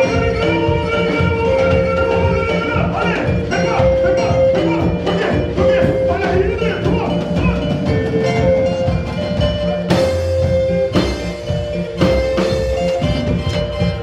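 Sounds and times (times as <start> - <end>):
band playing instrumental: 0.0 - 14.0.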